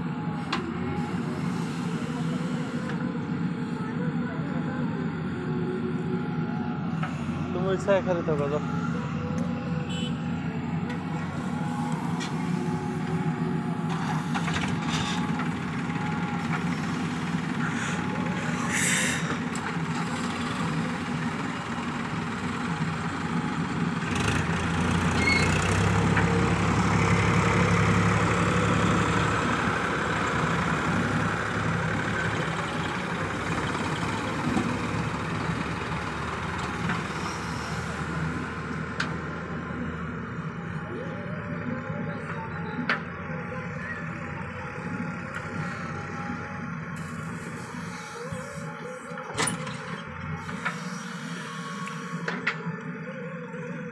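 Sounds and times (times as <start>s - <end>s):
diesel engines droning: 0.0s - 53.9s.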